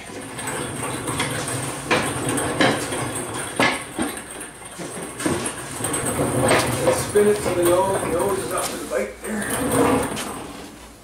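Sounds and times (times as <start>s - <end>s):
caster wheels rolling on concrete: 0.0s - 11.0s.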